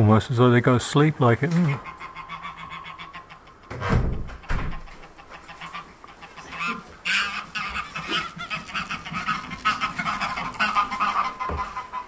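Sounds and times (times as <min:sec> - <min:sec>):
geese honking: 0:01.5 - 0:03.7, 0:04.4 - 0:12.0.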